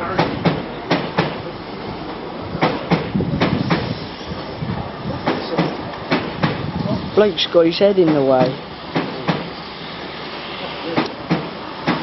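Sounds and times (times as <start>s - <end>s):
train wheels clacking over rail joints: 0.0s - 9.9s, 10.8s - 12.0s
low rumble of train rolling: 0.0s - 12.0s.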